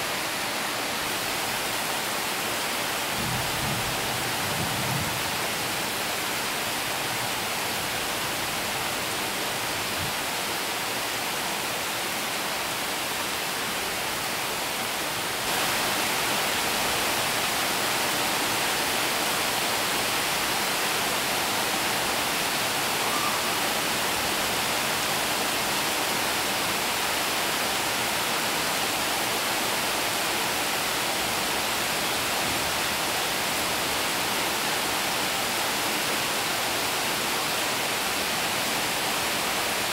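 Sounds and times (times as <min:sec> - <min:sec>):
heavy rain on tin roofs: 0:00.0 - 0:39.9.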